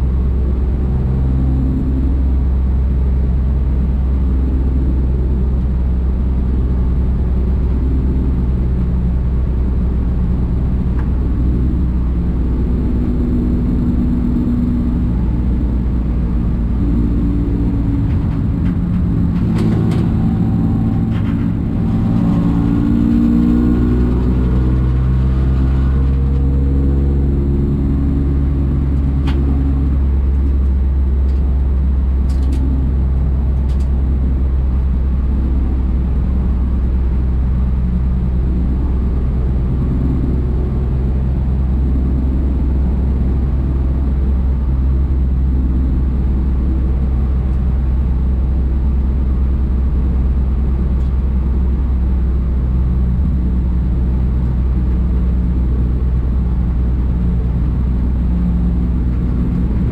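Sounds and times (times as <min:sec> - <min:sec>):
race car engine running hard: 0:00.0 - 0:59.9
road and wind noise: 0:00.0 - 0:59.9.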